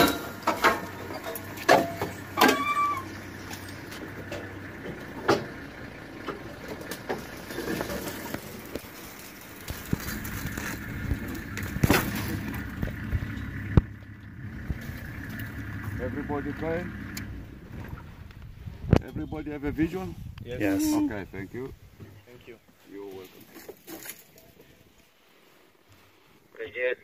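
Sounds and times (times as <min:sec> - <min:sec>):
vehicle engine running: 0:00.0 - 0:22.2.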